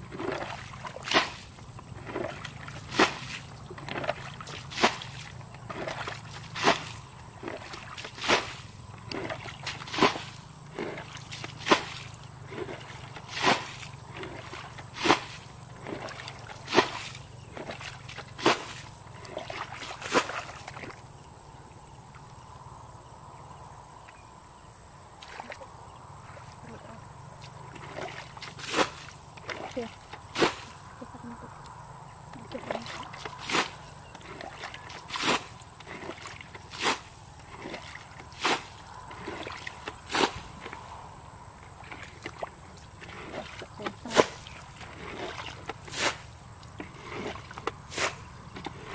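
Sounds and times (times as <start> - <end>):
water splashing and sloshing: 0.0 - 21.5, 25.1 - 48.9.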